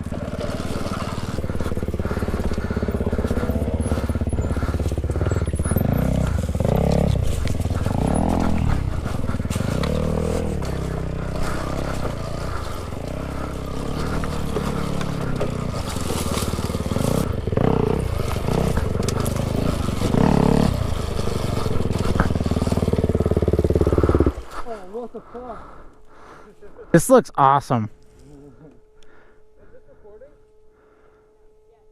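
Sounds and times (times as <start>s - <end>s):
dirt bikes revving: 0.0s - 26.0s.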